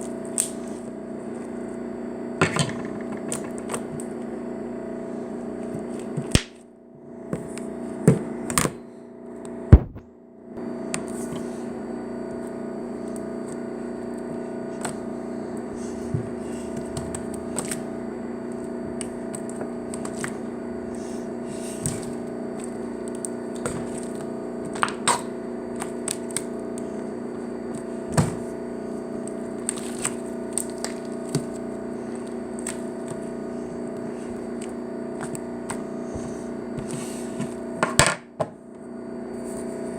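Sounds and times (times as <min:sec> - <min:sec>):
steady background hum: 0:00.0 - 0:39.9.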